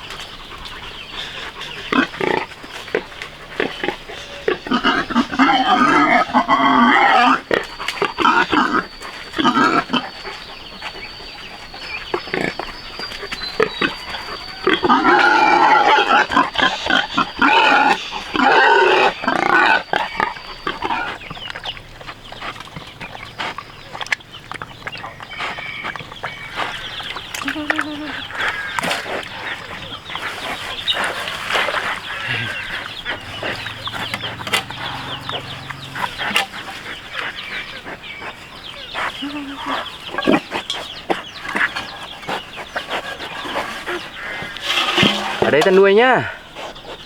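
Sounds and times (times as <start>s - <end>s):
pigs squealing: 0.0s - 21.6s, 25.0s - 47.0s.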